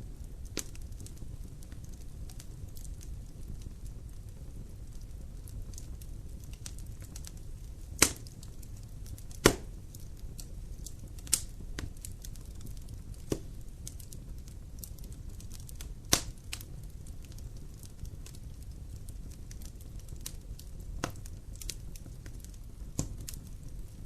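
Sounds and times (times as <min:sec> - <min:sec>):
faint fire crackling: 0:00.0 - 0:24.0
fire flames rumbling: 0:00.0 - 0:24.0
sharp pops from burning logs: 0:00.1 - 0:24.0.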